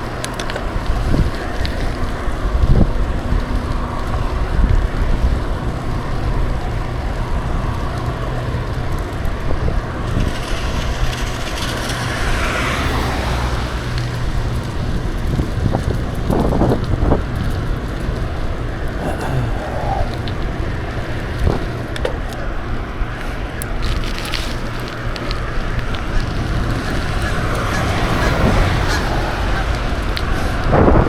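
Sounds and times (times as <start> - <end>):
bicycle road noise rumble: 0.0 - 31.0
wind buffeting microphone: 0.0 - 31.0.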